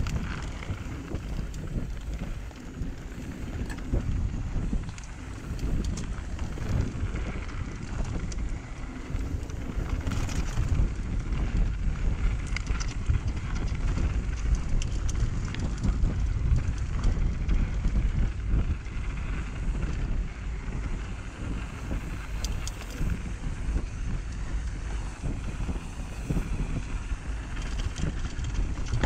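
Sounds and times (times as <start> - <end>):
bike rattling: 0.0 - 29.0
low rumble: 0.0 - 29.0
wind buffeting microphone: 0.0 - 29.0.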